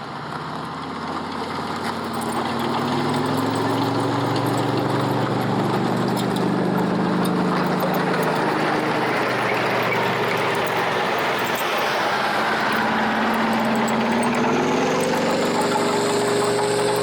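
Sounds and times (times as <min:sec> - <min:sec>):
armoured vehicle engine running: 0:00.0 - 0:17.0.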